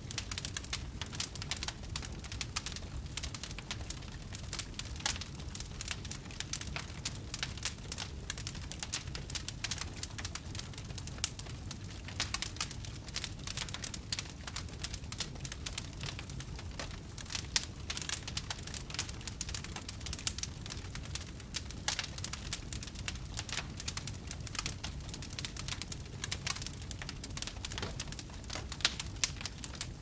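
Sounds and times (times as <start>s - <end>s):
campfire crackling and popping: 0.0s - 30.0s
low rumble of flames: 0.0s - 30.0s.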